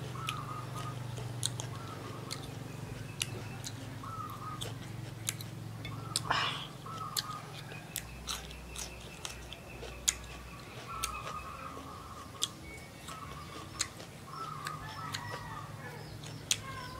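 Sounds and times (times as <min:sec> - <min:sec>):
chewing crunchy food: 0:00.0 - 0:16.9.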